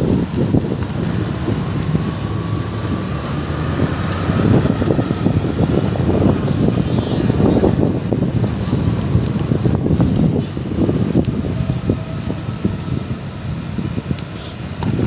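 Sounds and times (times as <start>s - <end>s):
road and vehicle noise: 0.0s - 15.0s
wind rumbling on microphone: 0.0s - 15.0s.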